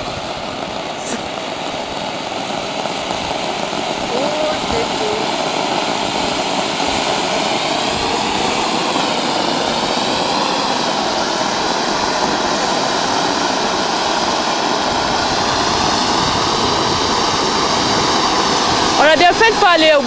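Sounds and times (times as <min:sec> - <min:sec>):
firework fountain hissing: 0:00.0 - 0:20.0.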